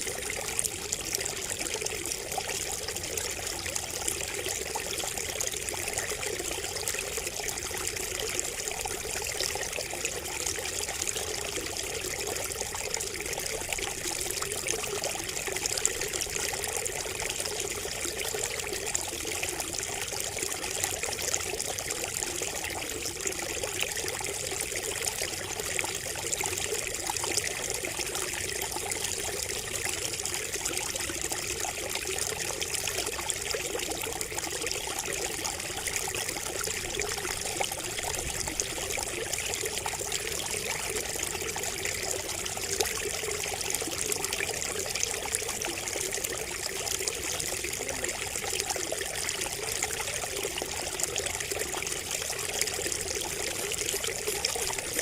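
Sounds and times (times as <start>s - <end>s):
water trickling from bamboo spout: 0.0s - 55.0s.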